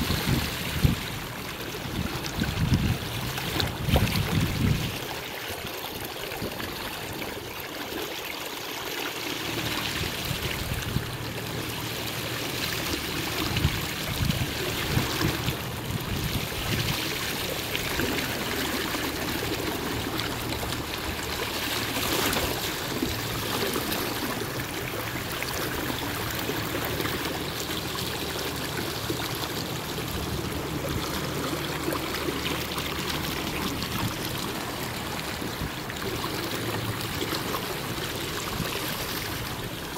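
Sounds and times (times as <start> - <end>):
water rushing along kayak hull: 0.0 - 39.9.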